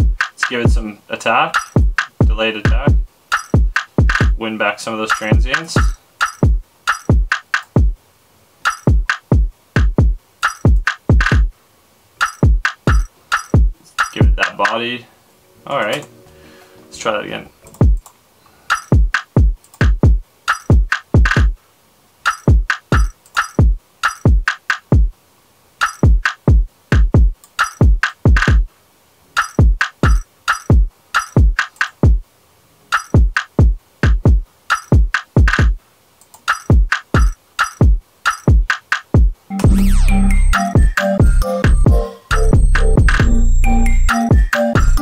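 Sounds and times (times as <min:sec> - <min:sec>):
hip-hop drum loop: 0:00.0 - 0:08.0, 0:08.6 - 0:11.5, 0:12.2 - 0:15.0, 0:17.7 - 0:18.0, 0:18.7 - 0:21.6, 0:22.2 - 0:25.2, 0:25.8 - 0:28.7, 0:29.4 - 0:32.3, 0:32.9 - 0:35.8, 0:36.4 - 0:45.0.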